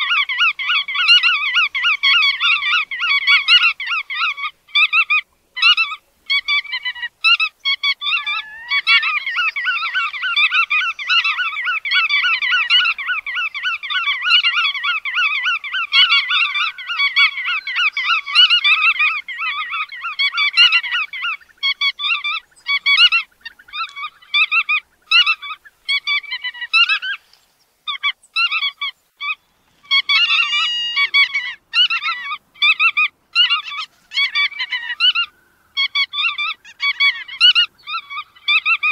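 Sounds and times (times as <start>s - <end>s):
godwits calling: 0.0s - 38.9s.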